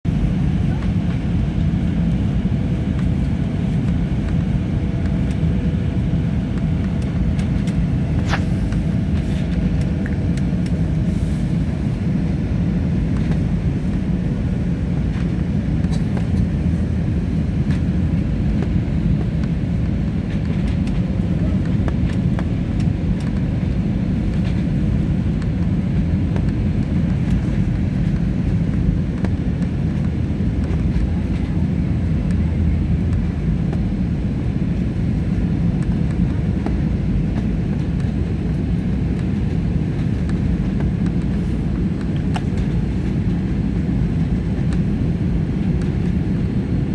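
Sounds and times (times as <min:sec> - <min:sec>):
airliner engine rumble in cabin: 0:00.0 - 0:46.9.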